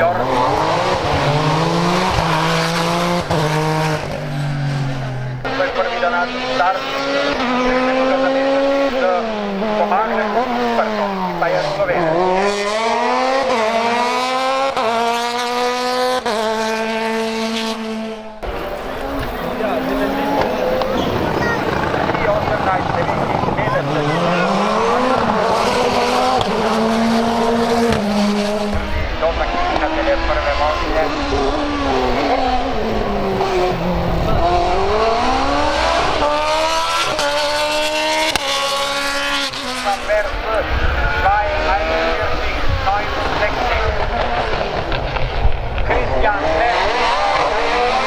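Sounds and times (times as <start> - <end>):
racing car engine accelerating: 0.0 - 48.0.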